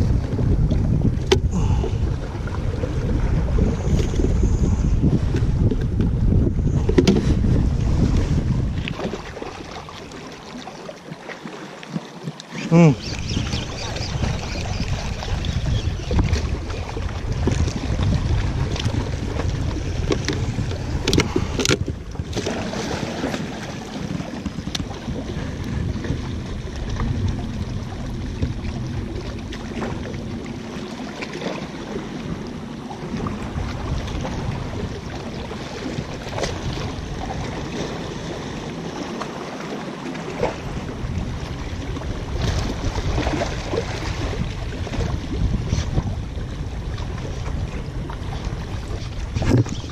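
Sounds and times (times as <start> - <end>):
wind buffeting microphone: 0.0 - 9.9, 12.6 - 49.9
waves washing against rocks: 0.0 - 49.9.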